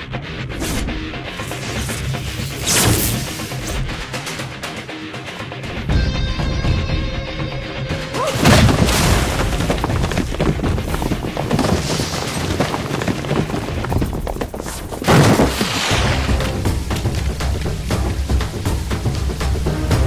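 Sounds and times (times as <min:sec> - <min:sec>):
dramatic film score: 0:00.0 - 0:20.0.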